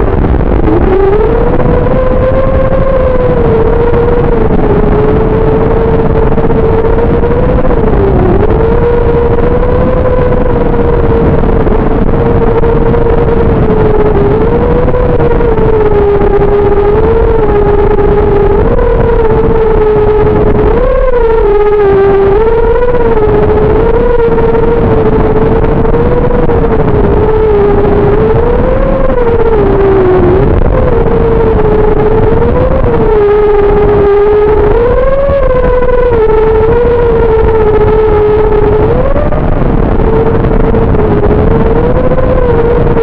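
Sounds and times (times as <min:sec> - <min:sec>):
quadcopter motors whining: 0:00.0 - 0:43.0
rough rushing noise: 0:00.0 - 0:43.0.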